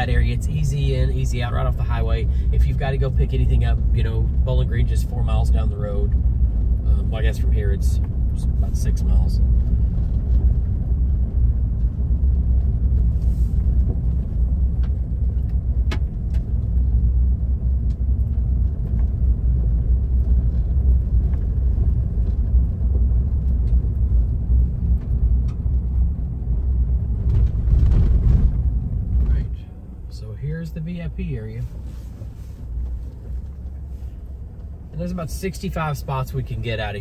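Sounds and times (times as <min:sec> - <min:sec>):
tyres rumbling on gravel: 0:00.0 - 0:37.0.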